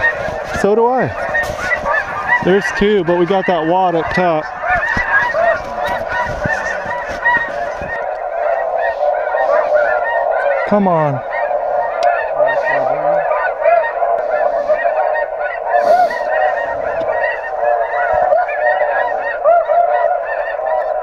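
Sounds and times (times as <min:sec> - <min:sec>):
geese calling through speakers: 0:00.0 - 0:21.0.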